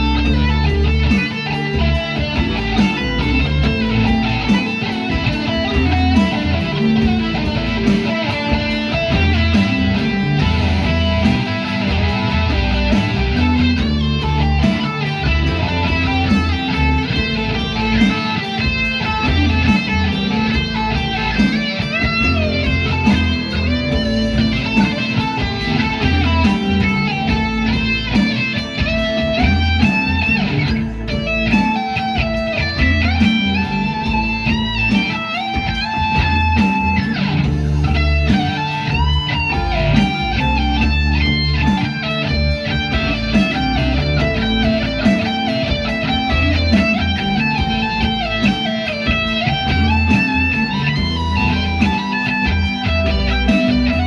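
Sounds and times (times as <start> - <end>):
bass line: 0.0 - 54.0
guitar melody with bending notes: 0.0 - 54.0.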